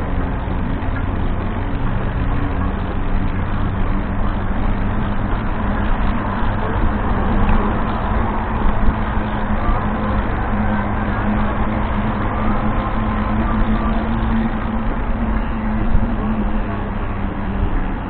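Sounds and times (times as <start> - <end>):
constant low hum: 0.0 - 18.0
motor traffic: 0.0 - 18.0
road rumble: 0.0 - 18.0.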